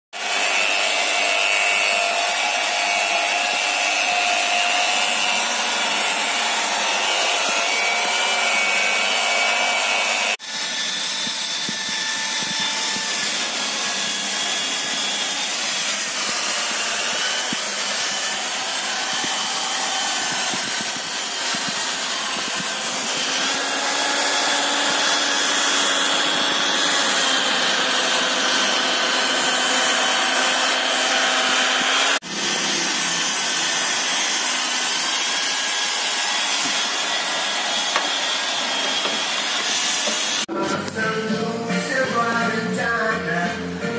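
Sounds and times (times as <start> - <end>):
car polisher motor whine: 4.9 - 40.5.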